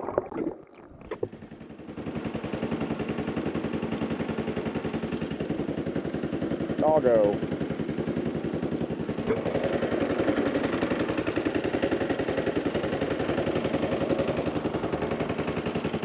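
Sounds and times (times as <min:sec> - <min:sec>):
small gas engine running: 0:01.0 - 0:16.0.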